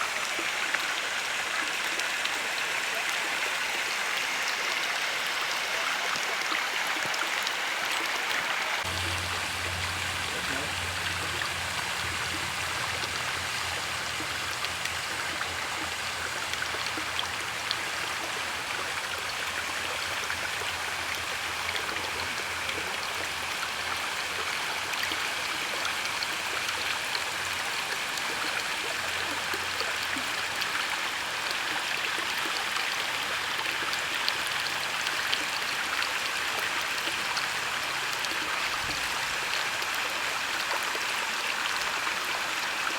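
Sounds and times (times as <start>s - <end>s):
water flowing with splashes: 0.0s - 42.9s.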